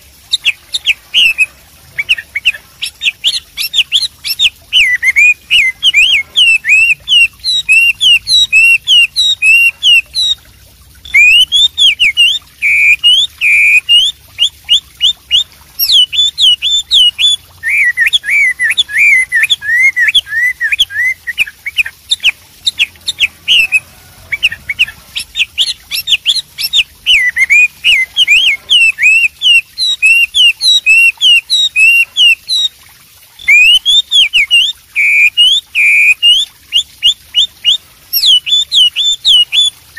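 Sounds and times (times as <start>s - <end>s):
bird singing whistled phrases: 0.3s - 10.4s, 11.0s - 32.7s, 33.4s - 39.7s.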